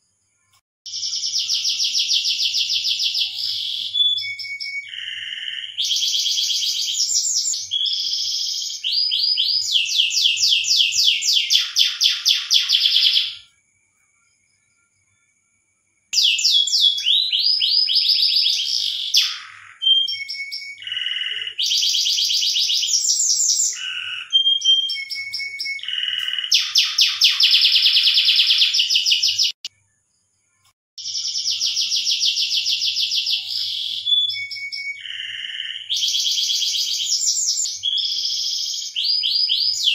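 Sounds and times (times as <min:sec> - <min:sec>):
canary singing trills: 0:00.9 - 0:13.5, 0:16.2 - 0:29.7, 0:30.6 - 0:39.9.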